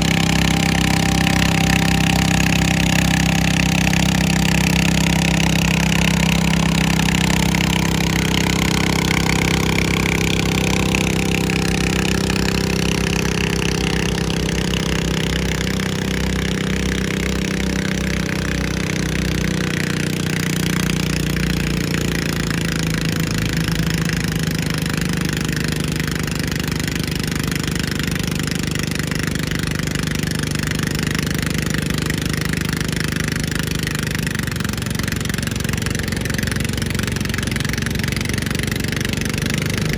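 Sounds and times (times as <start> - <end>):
lawnmower engine at high revs: 0.0 - 39.9.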